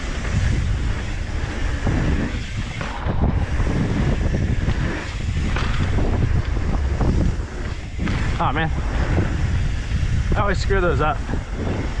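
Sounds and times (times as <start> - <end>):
bike clicks and rattles: 0.0 - 12.0
mountain bike rolling on dirt: 0.0 - 12.0
wind buffeting microphone: 0.0 - 12.0.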